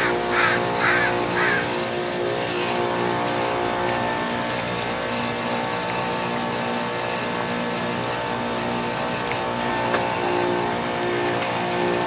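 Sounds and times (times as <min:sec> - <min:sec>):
heat pump compressor humming: 0:00.0 - 0:12.0.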